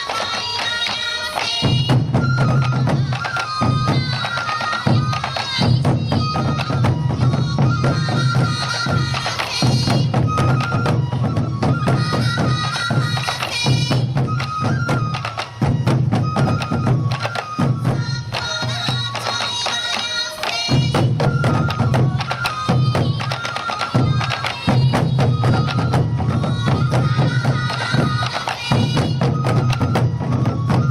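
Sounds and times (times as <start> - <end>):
bamboo flutes playing melody: 0.0 - 30.9
taiko drums in fast rhythm: 0.0 - 30.9.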